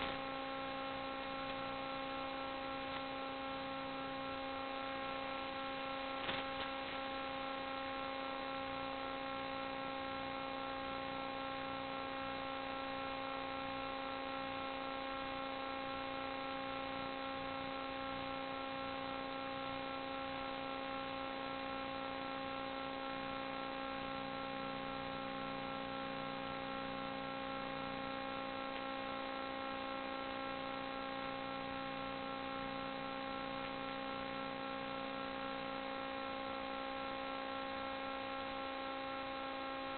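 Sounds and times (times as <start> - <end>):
electrical hum and buzz: 0.0 - 39.9.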